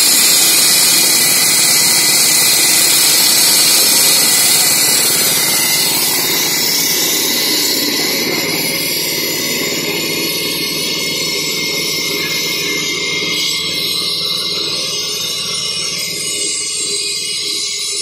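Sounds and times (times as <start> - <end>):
petrol engine drone: 0.0 - 18.0
saw blade grinding road surface: 0.0 - 18.0.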